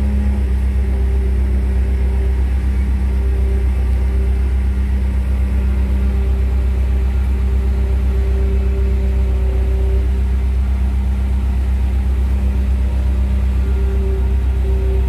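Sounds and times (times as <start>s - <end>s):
loud low engine drone: 0.0s - 15.0s.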